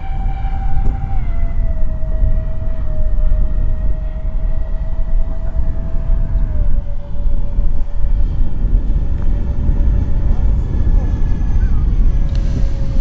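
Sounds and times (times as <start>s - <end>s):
electric ducted fans whining: 0.0s - 13.0s
wind rumble on microphone: 0.0s - 13.0s.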